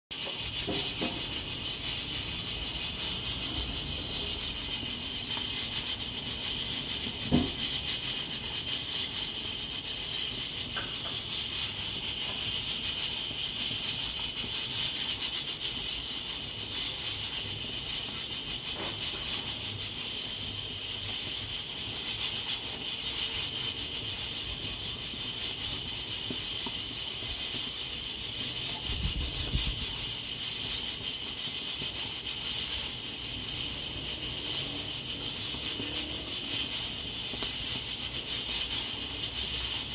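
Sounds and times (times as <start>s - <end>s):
pressure cooker hissing: 0.1s - 39.9s.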